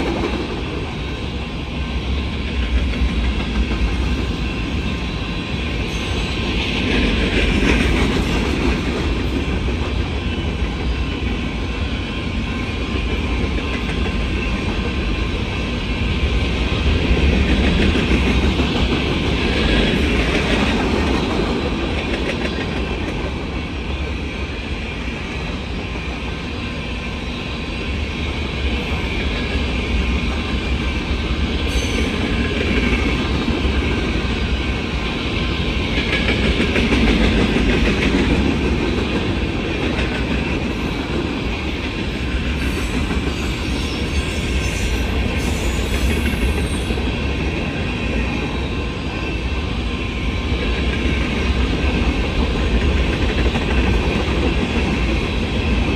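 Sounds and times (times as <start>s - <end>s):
steel wheels rumbling on rails: 0.0s - 55.9s
wheels clickety-clack over track: 0.0s - 55.9s.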